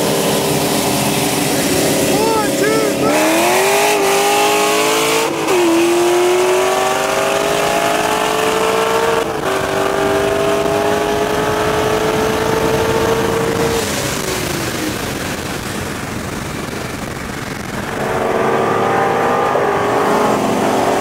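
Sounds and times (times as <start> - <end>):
car engine accelerating: 0.0 - 21.0
road and wind noise: 0.0 - 21.0.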